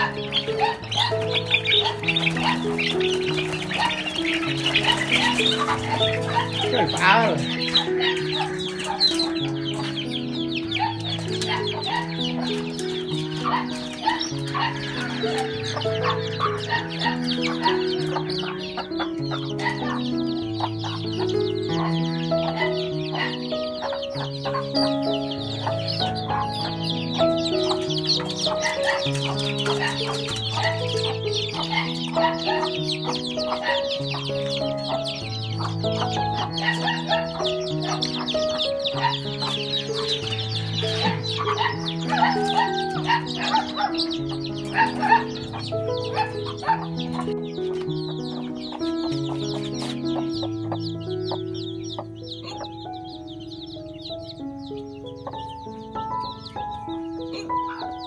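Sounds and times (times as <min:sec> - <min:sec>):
chicks peeping: 0:00.0 - 0:58.0
slow background music: 0:00.0 - 0:58.0.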